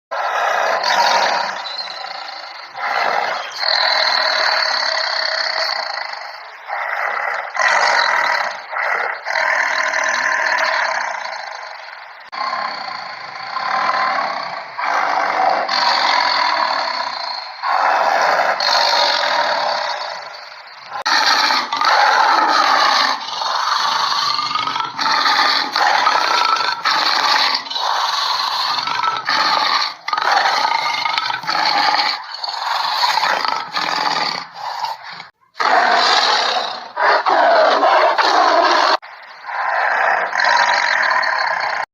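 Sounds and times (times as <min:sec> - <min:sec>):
tiger roaring and growling: 0:00.1 - 0:41.9.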